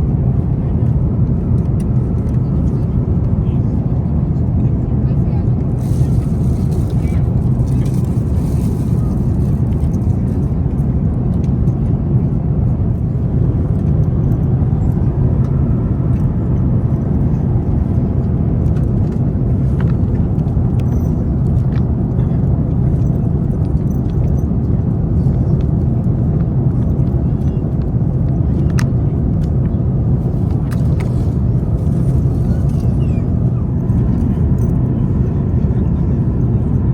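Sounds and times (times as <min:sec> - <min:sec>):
airplane cabin rumble: 0:00.0 - 0:36.9.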